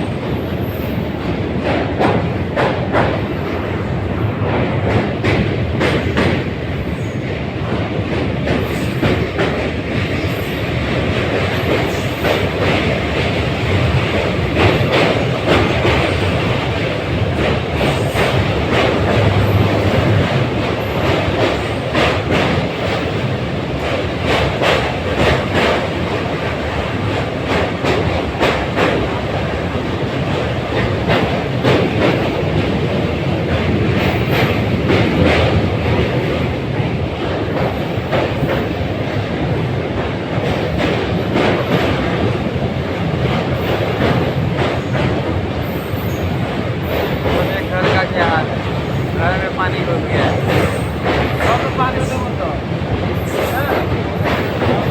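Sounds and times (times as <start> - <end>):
train rumble: 0.0 - 54.9
train wheels clattering on rails: 0.0 - 54.9.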